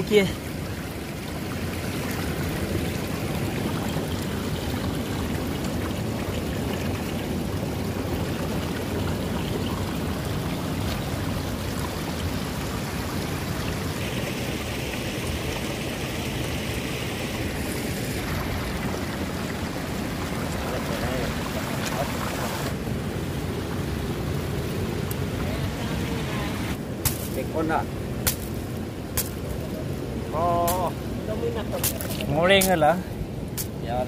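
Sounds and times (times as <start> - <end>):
flowing river water: 0.0 - 34.0.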